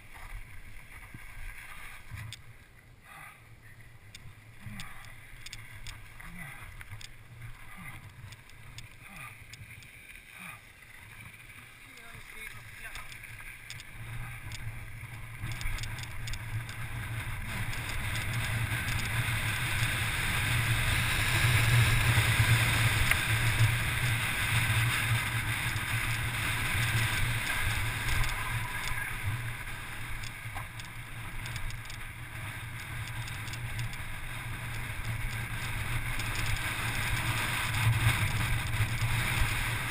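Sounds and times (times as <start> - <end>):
bike tyres rolling over gravel: 0.0 - 39.9.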